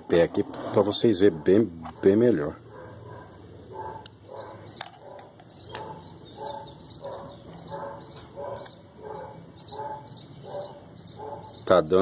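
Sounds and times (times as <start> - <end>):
birds chirping: 0.0 - 12.0
dog barking: 1.3 - 11.6.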